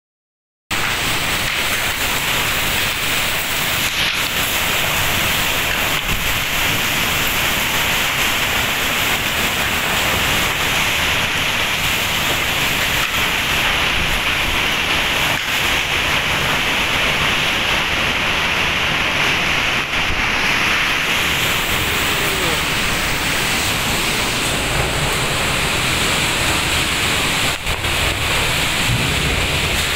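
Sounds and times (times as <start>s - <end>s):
heavy rain pouring: 0.7s - 29.9s
strong wind: 1.0s - 29.9s.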